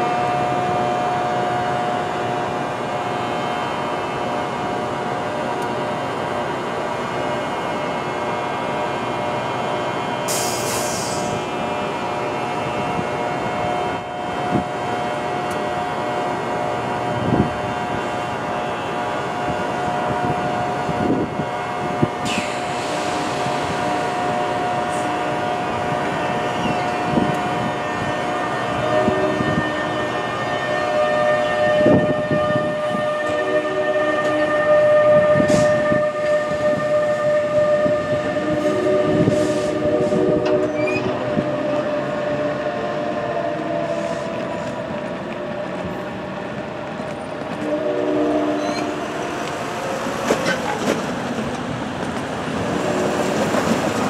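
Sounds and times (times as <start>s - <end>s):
electric locomotive whine: 0.0s - 54.0s.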